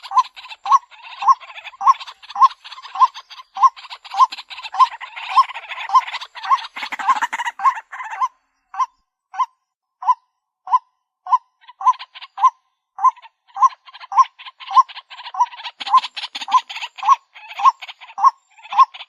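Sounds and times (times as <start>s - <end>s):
scratchy bird chattering: 0.0s - 19.0s
waterhen kwak calls: 0.0s - 19.0s.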